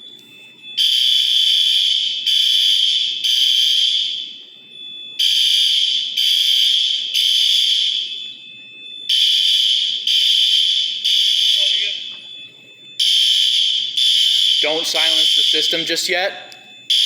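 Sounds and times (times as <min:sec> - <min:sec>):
fire alarm horns blasting: 0:00.0 - 0:17.0.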